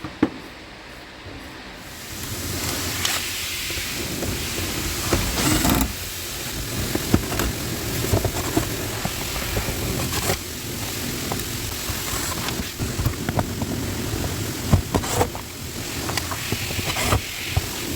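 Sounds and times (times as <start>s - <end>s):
car ac blower fan rushing: 0.0s - 17.9s.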